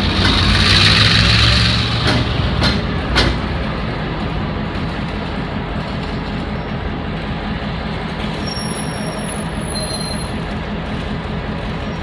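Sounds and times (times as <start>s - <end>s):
diesel locomotive engines rumbling: 0.0s - 12.0s.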